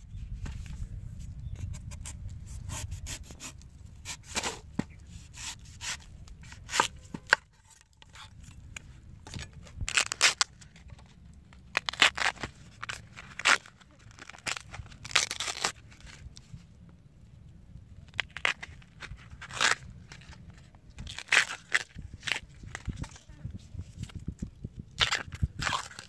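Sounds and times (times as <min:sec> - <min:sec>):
knife cutting and tearing husk: 0:00.6 - 0:16.5, 0:18.1 - 0:26.0.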